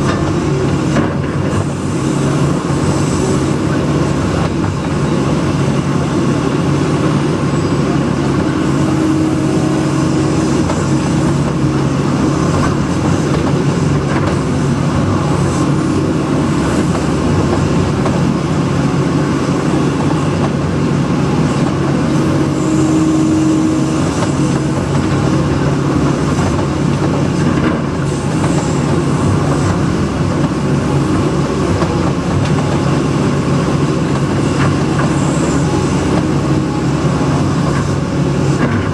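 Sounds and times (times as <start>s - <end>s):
engine whine: 0.0s - 38.9s
excavator diesel engine running: 0.0s - 38.9s.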